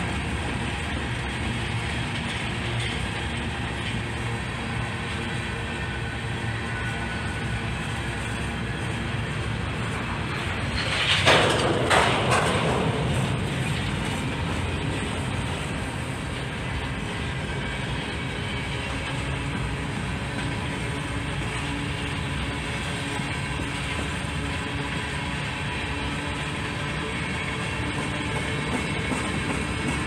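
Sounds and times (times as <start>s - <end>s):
freight train wheels rumbling: 0.0s - 30.0s
train clatter: 0.0s - 30.0s.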